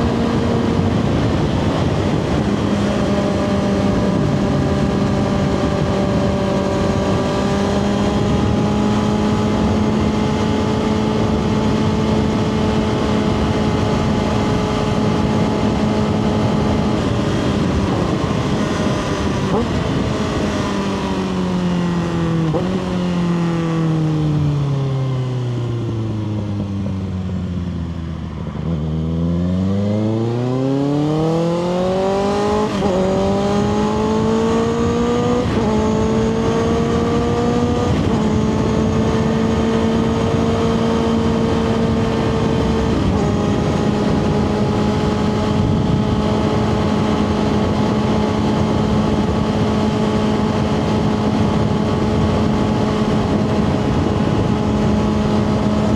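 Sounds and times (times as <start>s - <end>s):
motorcycle engine: 0.0s - 55.9s.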